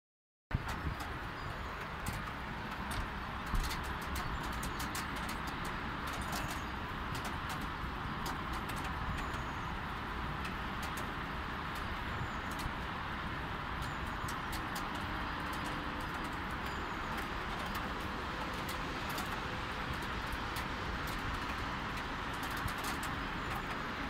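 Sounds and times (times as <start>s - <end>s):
distant road traffic: 0.5s - 24.0s
light rain falling: 0.6s - 24.0s
raindrops ticking: 0.6s - 24.0s.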